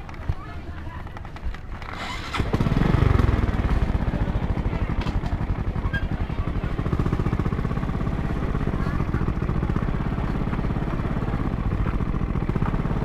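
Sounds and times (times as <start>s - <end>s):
scooter engine idling: 1.9s - 13.0s.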